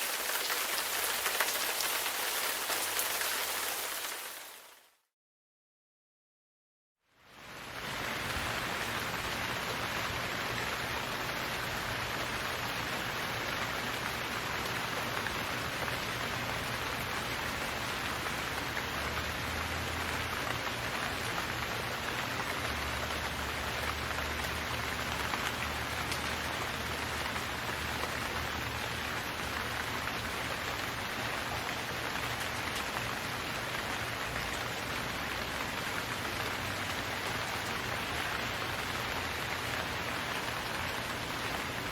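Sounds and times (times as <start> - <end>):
steady rain falling: 0.0 - 4.9, 7.1 - 41.9.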